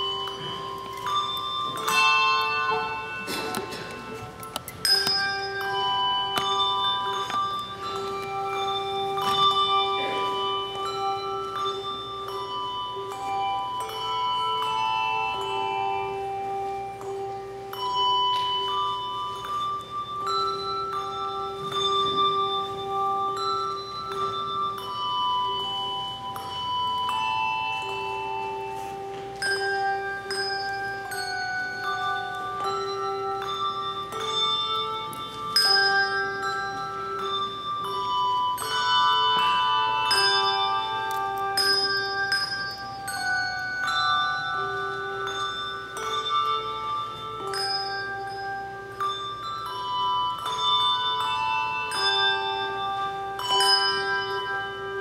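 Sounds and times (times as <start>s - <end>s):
handbells ringing a melody: 0.0s - 55.0s
low bell ringing: 0.0s - 55.0s.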